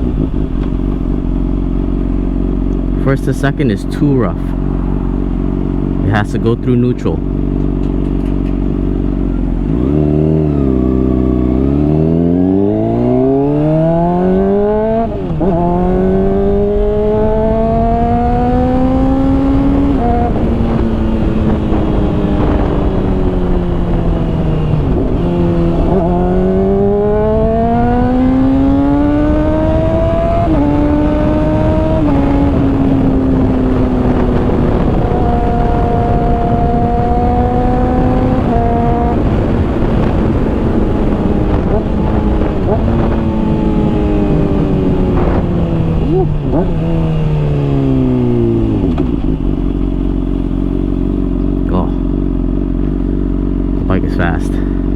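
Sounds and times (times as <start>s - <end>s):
wind rushing over microphone: 0.0s - 6.5s, 8.6s - 52.2s
motorcycle engine accelerating: 0.0s - 54.9s.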